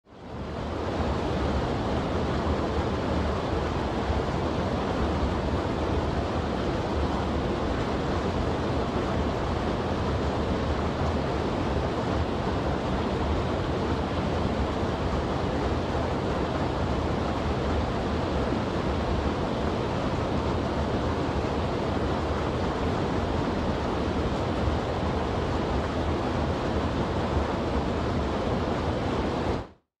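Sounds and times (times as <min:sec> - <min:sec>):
stream rushing over boulders: 0:00.1 - 0:29.8.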